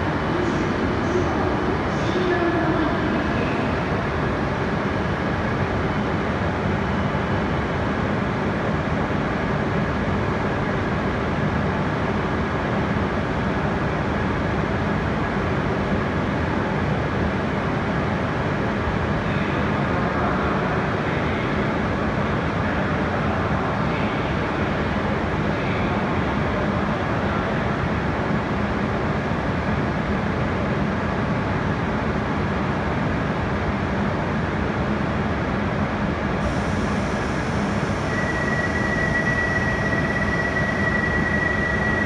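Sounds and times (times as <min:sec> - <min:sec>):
standing train equipment humming: 0:00.0 - 0:15.8, 0:17.1 - 0:42.0.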